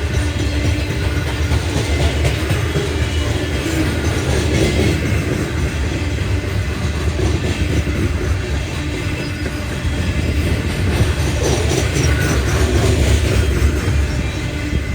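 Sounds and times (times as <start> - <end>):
train cars clacking: 0.0 - 14.9
train wheels rumbling on rail: 0.0 - 14.9.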